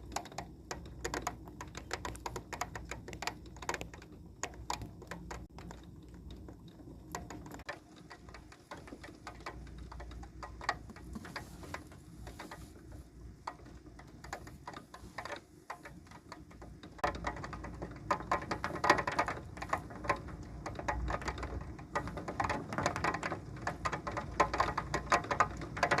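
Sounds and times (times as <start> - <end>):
rain pattering and dripping: 0.0 - 26.0.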